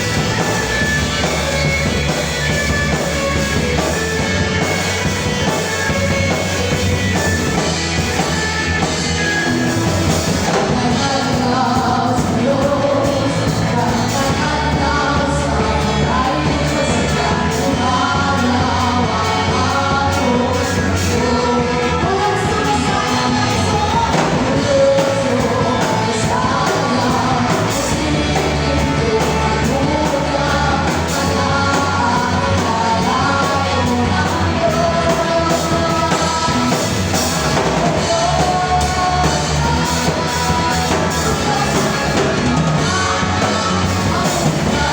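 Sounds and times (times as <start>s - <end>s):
lead singer singing: 0.0s - 44.9s
live rock band playing: 0.0s - 44.9s.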